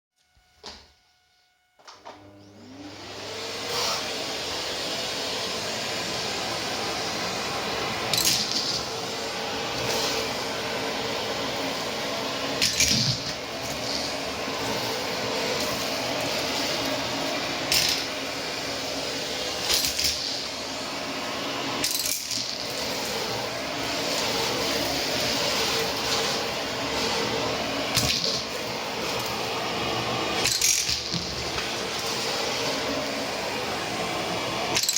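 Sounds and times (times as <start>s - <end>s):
vacuum cleaner motor whining: 0.6s - 34.9s.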